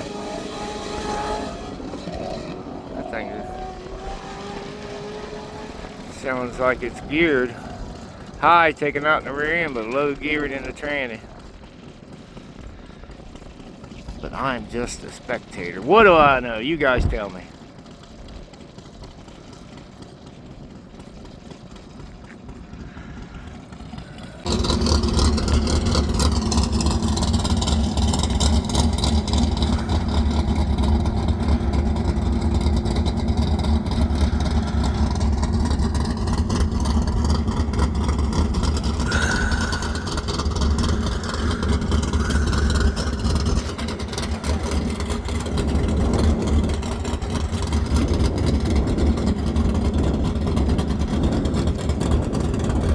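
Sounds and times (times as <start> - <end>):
race car engine running: 0.0 - 52.9.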